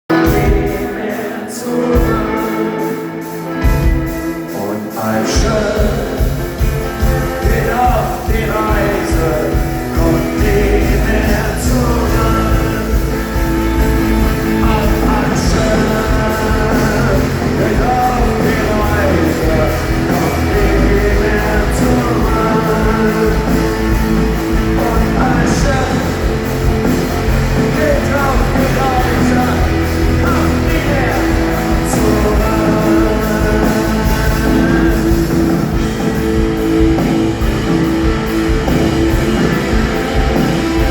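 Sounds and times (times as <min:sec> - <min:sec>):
rock band playing: 0:00.0 - 0:40.9
person singing: 0:00.1 - 0:40.9.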